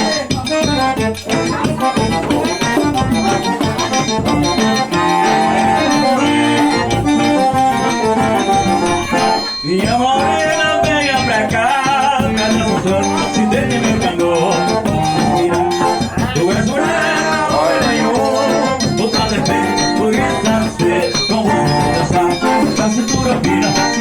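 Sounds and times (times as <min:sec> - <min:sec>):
accordion playing: 0:00.0 - 0:24.0.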